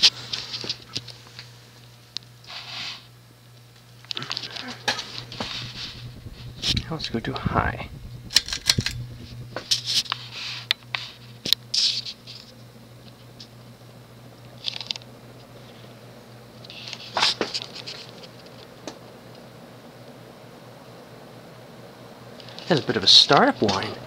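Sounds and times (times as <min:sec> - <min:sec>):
ceiling fan motor whine: 0:00.0 - 0:24.0.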